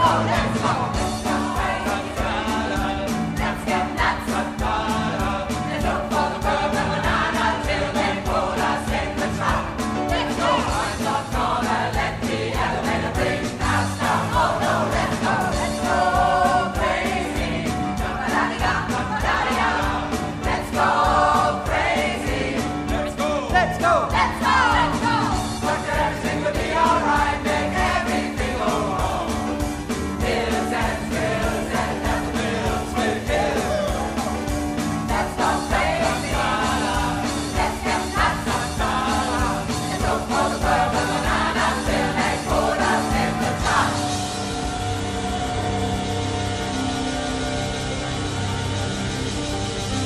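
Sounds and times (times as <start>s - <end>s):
pop choir singing: 0.0s - 49.6s
drums fast beat: 0.0s - 50.0s
live band playing: 0.0s - 50.0s.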